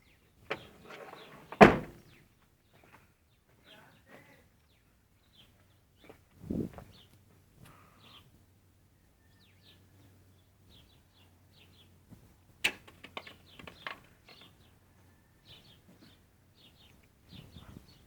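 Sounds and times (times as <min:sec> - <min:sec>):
small birds chirping: 0:00.0 - 0:08.4, 0:09.0 - 0:12.2, 0:13.0 - 0:18.0.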